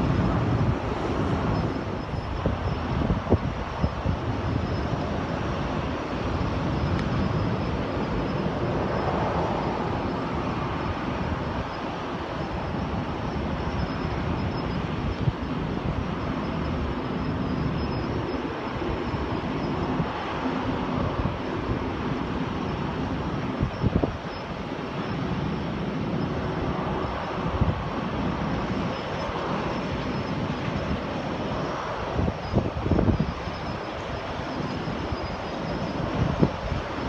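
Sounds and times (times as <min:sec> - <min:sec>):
faint high whine: 0:00.0 - 0:37.0
jet airliners taxiing: 0:00.0 - 0:37.0
wind buffeting microphone: 0:00.0 - 0:37.0.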